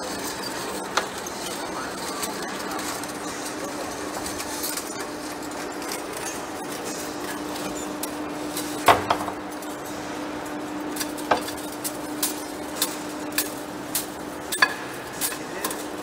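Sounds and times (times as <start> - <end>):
lathe cutting tool scraping metal: 0.0 - 16.0
machine hum: 0.0 - 16.0.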